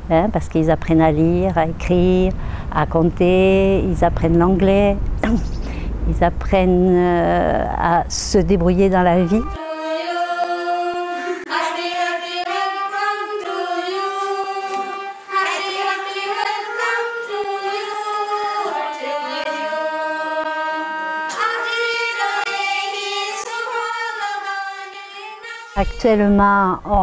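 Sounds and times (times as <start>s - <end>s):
high voices singing: 0.9s - 26.2s.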